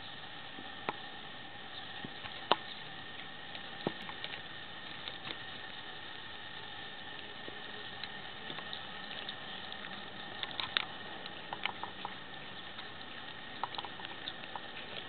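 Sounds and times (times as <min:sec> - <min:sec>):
steady hiss: 0:00.0 - 0:15.0
cats chewing meat: 0:00.2 - 0:15.0.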